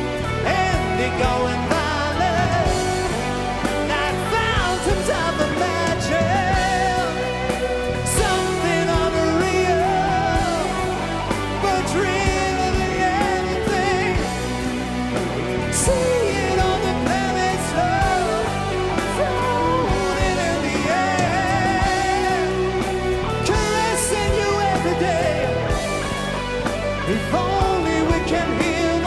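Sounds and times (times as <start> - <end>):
rock band playing instrumental: 0.0 - 29.0.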